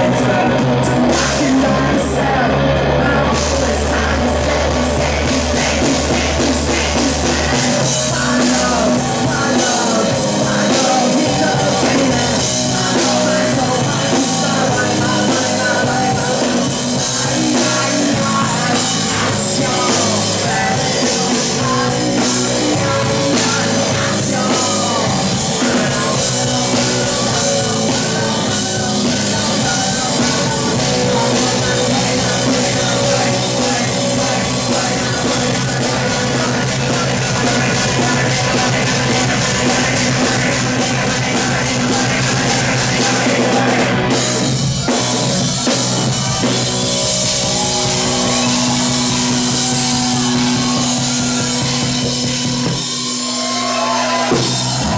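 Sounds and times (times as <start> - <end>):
drums: 0.0 - 54.9
electric guitar: 0.0 - 54.9
person singing into a microphone: 0.0 - 54.9.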